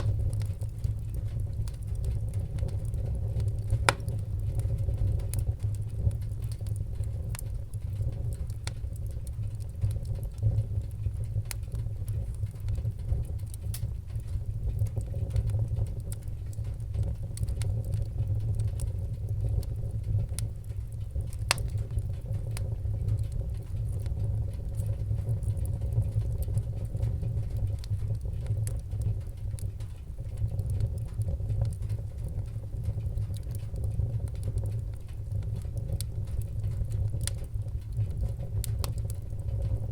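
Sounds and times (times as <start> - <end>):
fire rumbling with crackles and pops: 0.0 - 39.9.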